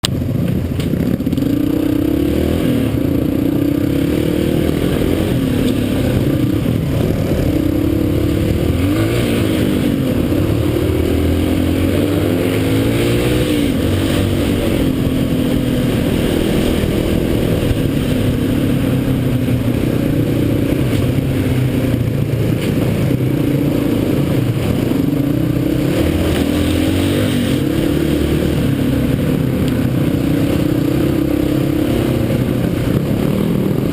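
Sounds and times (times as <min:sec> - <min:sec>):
dirt bike engine revving: 0:00.9 - 0:33.9.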